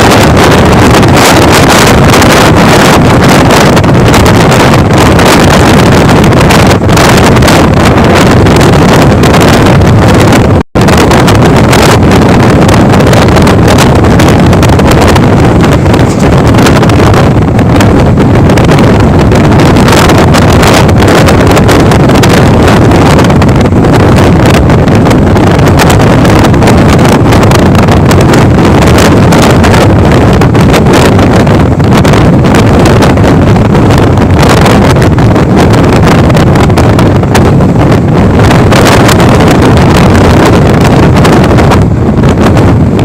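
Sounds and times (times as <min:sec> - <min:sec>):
moving passenger train: 0:00.0 - 0:43.0
wind buffeting microphone: 0:00.0 - 0:43.0.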